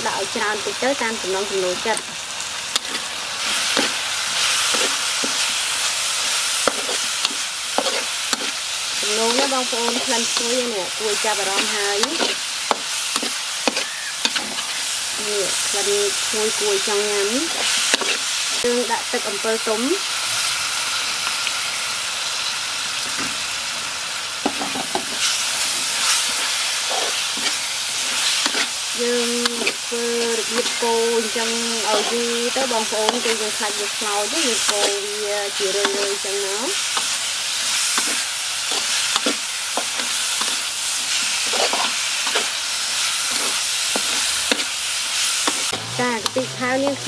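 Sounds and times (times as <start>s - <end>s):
paste sizzling in a pan: 0.0s - 47.0s
spatula scraping pan: 2.7s - 18.4s, 24.8s - 47.0s.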